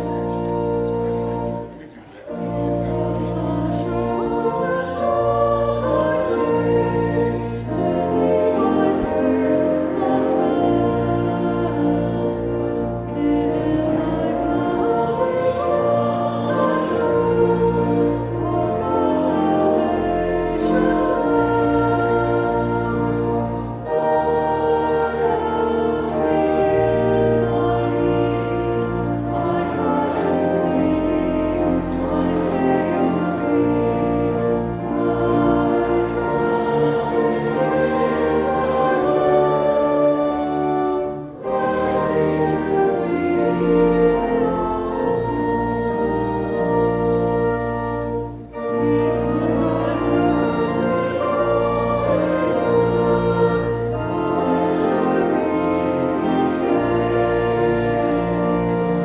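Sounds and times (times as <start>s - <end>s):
church choir singing: 0.0s - 59.0s
organ chords: 0.0s - 59.0s.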